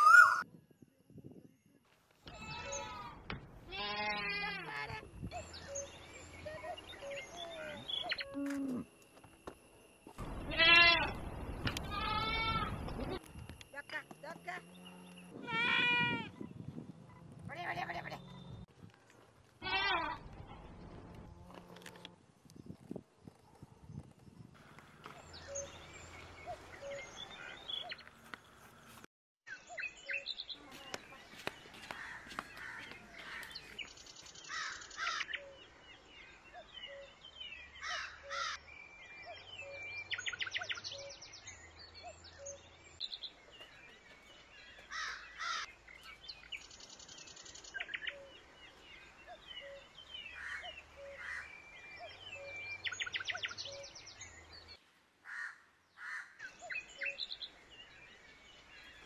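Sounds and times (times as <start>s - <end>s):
birds calling and chirping: 0.0s - 0.4s, 2.2s - 19.2s, 19.8s - 59.0s.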